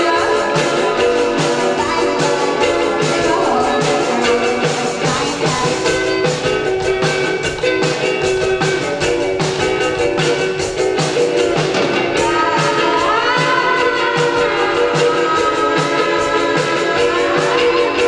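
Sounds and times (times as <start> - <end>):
drum kit beat: 0.0 - 18.0
keyboard chords: 0.0 - 18.0.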